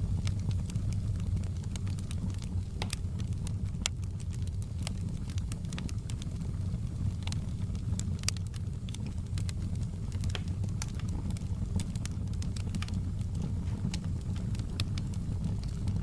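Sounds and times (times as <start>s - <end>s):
burning wood crackling: 0.0s - 16.0s
campfire rumble: 0.0s - 16.0s.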